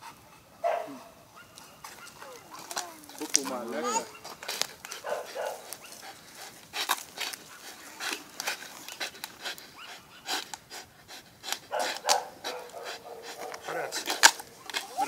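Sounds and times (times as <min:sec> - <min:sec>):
dog breathing hard: 0:00.0 - 0:15.0.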